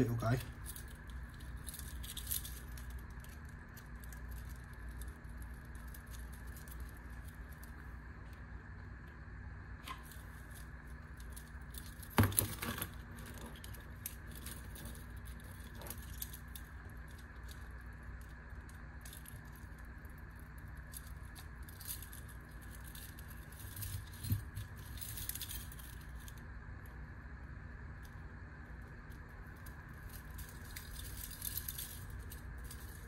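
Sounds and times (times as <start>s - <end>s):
keys clinking and jangling: 0.0s - 7.8s, 9.9s - 26.4s, 29.1s - 33.0s
steady low hum: 0.0s - 33.0s.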